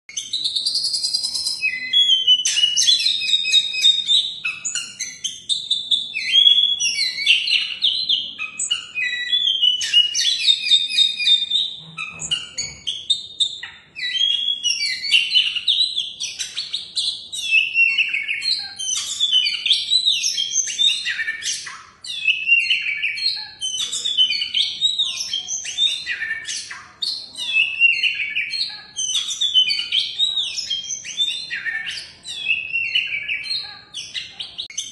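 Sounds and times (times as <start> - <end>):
bird singing whistled song: 0.1 - 34.9.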